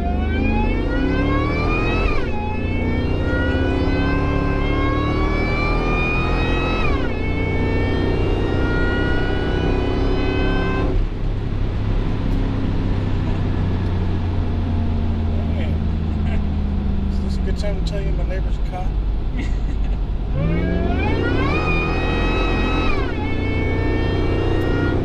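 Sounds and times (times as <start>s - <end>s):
engine accelerating through gears: 0.0s - 19.4s, 20.0s - 25.0s
road noise: 0.0s - 25.0s.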